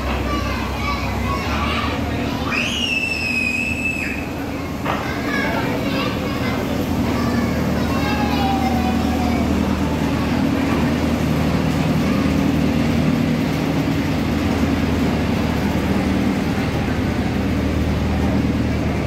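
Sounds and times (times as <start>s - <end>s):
miniature train rolling past: 0.0s - 19.0s.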